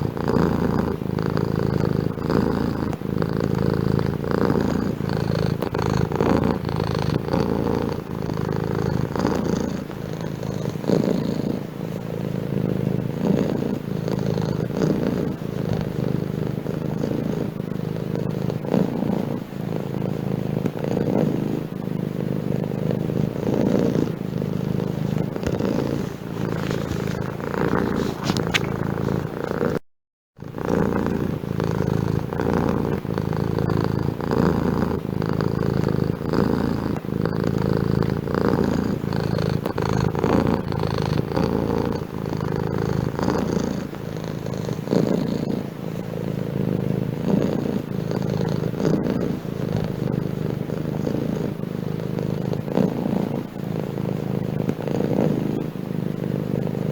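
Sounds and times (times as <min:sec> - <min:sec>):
cat purring: 0:00.0 - 0:29.8, 0:30.4 - 0:56.9.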